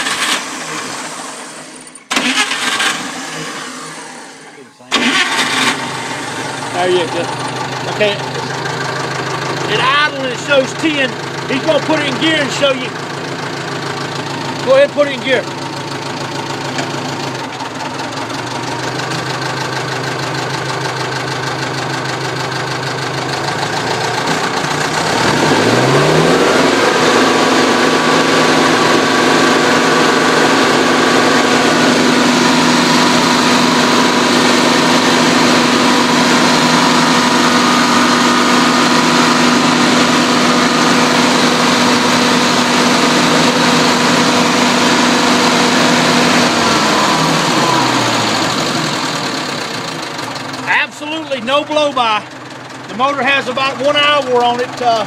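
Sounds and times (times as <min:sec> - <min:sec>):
stump grinder engine revving: 0:00.0 - 0:50.8.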